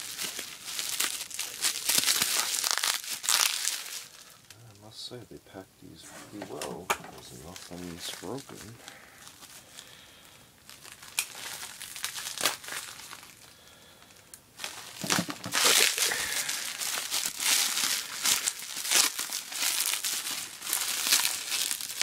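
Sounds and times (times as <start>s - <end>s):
bubble wrap crinkling: 0.0s - 4.8s, 6.3s - 22.0s.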